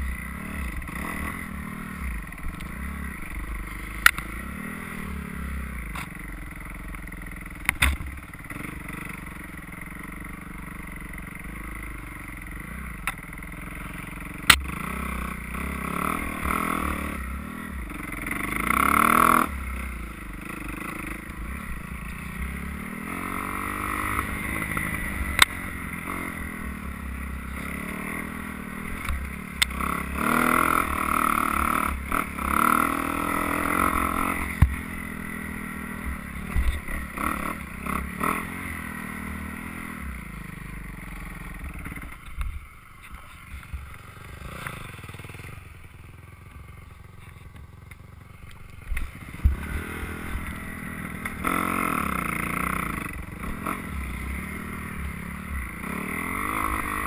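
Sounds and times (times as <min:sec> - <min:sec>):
dirt bike engine revving: 0:00.0 - 0:42.2, 0:43.1 - 0:57.0.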